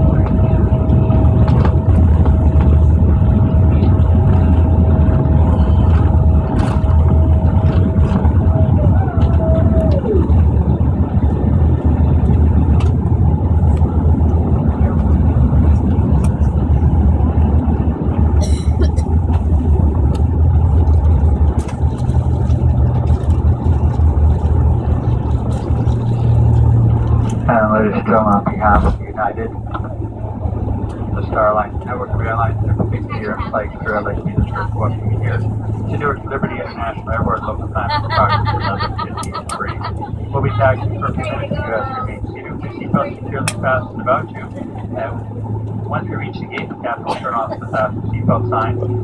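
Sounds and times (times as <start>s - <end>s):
aircraft engine rumble: 0.0s - 49.0s
steady hum: 0.0s - 49.0s
steady whine: 0.0s - 49.0s.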